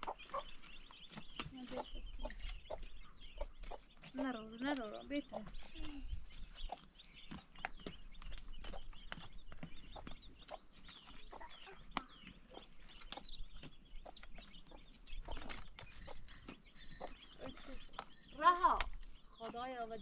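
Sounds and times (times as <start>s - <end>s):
chickens clucking: 0.0s - 20.0s
high chirping calls: 0.0s - 20.0s.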